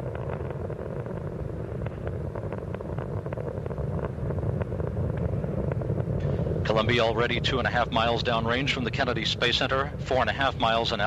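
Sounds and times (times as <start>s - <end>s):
rocket engine roar: 0.0s - 11.0s.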